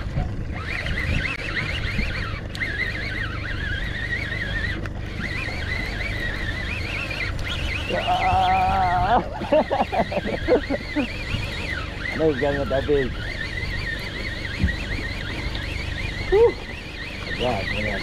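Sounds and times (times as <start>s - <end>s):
wind buffeting microphone: 0.0s - 9.5s, 10.1s - 18.0s
thin wavering whine: 0.0s - 18.0s
long held tone: 0.7s - 9.3s, 10.4s - 18.0s.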